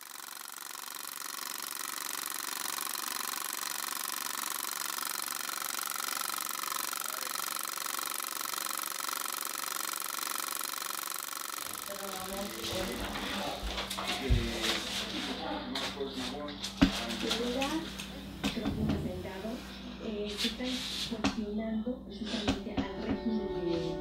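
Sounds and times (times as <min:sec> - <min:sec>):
film projector whirring and clattering: 0:00.0 - 0:19.6.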